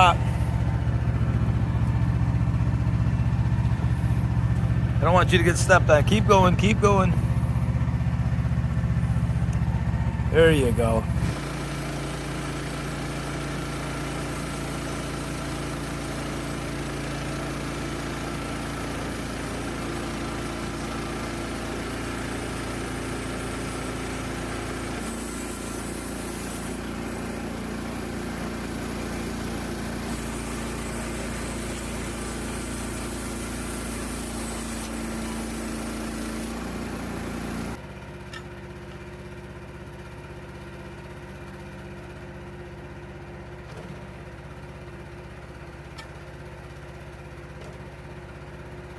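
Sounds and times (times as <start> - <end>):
sawmill gasoline engine running: 0.0 - 48.9.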